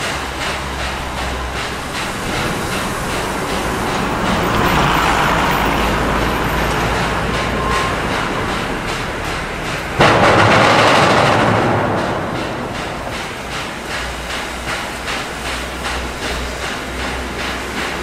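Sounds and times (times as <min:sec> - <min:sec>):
steam hissing: 0:00.0 - 0:18.0
steam locomotive chuffing: 0:00.0 - 0:18.0.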